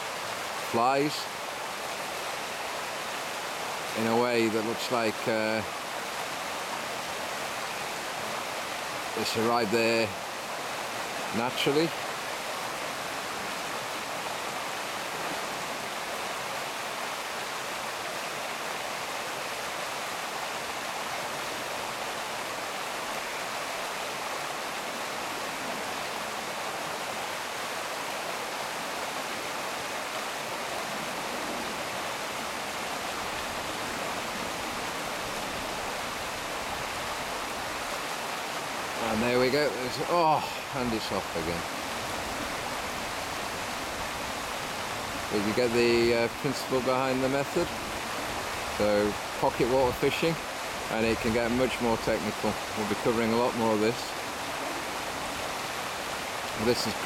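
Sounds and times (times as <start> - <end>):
stream rushing over rapids: 0.0 - 57.0.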